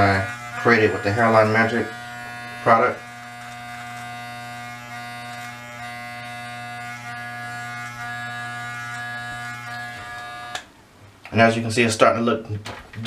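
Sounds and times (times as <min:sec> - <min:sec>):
electric hair clippers buzzing: 0:00.0 - 0:10.7.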